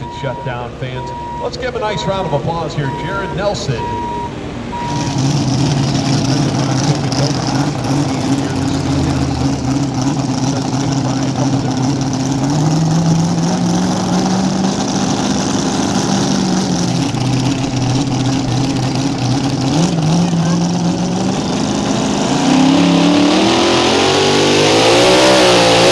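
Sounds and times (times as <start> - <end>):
engine idling: 0.0 - 24.1.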